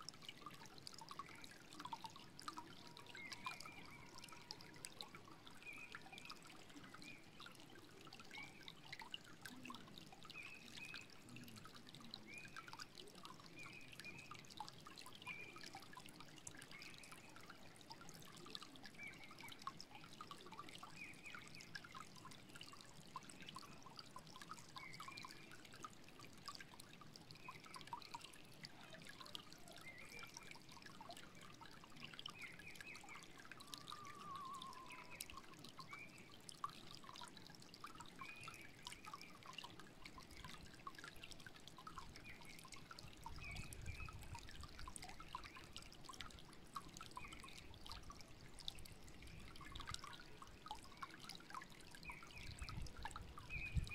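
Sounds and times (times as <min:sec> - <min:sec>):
stream flowing over stones: 0:00.0 - 0:53.9.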